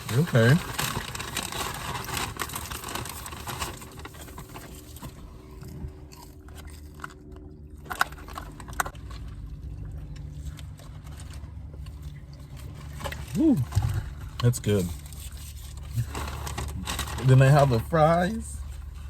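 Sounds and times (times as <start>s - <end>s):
chewing crispy food: 0.0s - 19.0s.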